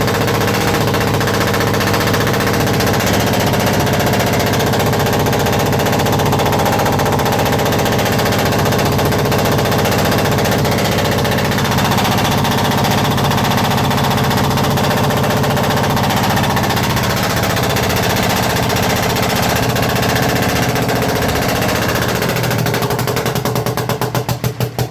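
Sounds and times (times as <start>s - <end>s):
diesel engine clattering: 0.0s - 24.9s.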